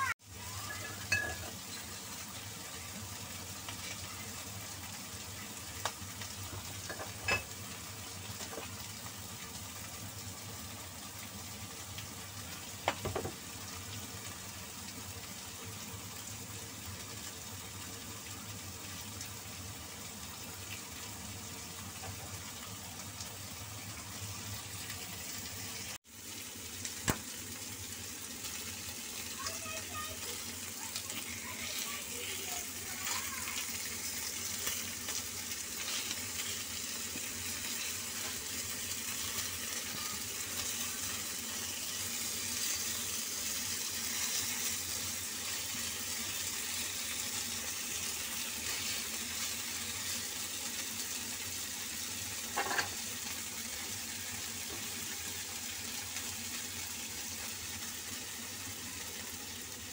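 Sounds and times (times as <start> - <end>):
meat sizzling in oil: 0.0 - 59.9.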